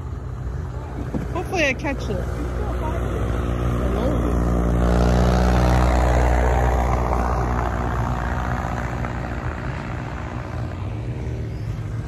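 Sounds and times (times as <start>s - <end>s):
propeller airplane flying past: 0.0s - 12.0s.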